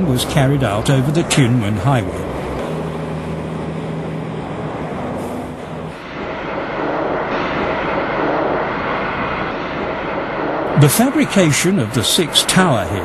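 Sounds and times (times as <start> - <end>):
heavy vehicles engine hum: 0.0 - 13.0
traffic rushing noise: 0.0 - 13.0.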